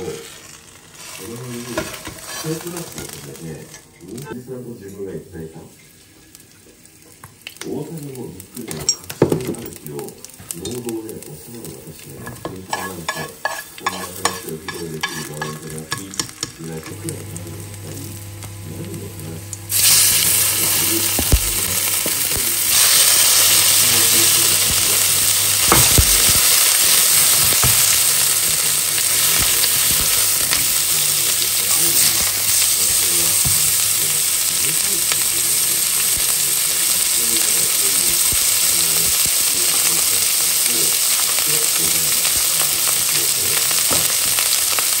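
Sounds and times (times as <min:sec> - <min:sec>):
steak sizzling in a pan: 0:00.0 - 0:04.4, 0:09.6 - 0:45.0.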